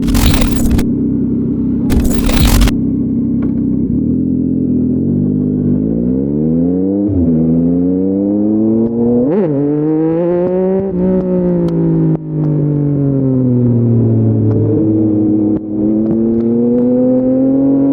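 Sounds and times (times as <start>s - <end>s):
motorcycle engine accelerating: 0.0s - 17.9s.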